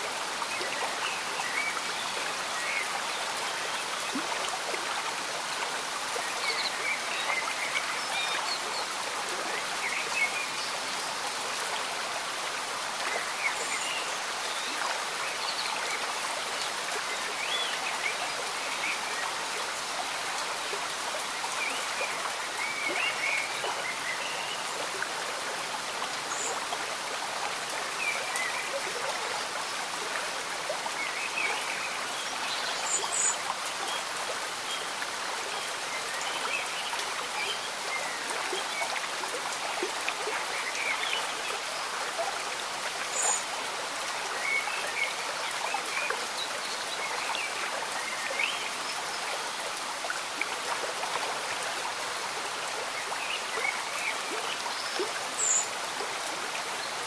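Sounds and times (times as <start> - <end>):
gentle rain: 0.0 - 57.0.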